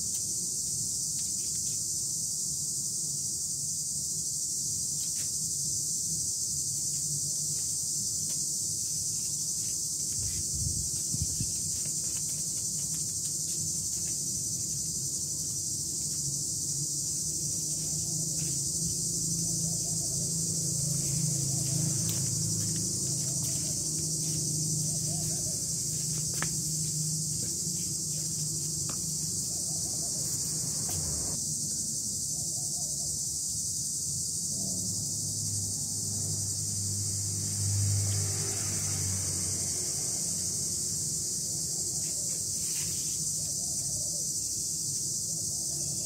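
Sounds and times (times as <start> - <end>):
cicadas shrilling: 0.0 - 46.0.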